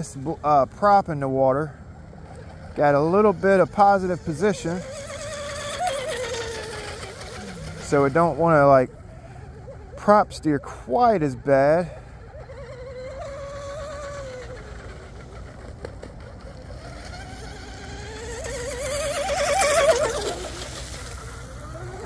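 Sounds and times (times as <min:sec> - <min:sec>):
electric boat motor whine: 0:00.0 - 0:22.0.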